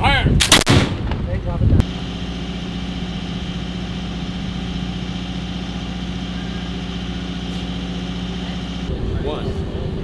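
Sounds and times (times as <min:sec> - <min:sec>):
engine hum with rumble: 0:01.8 - 0:10.0.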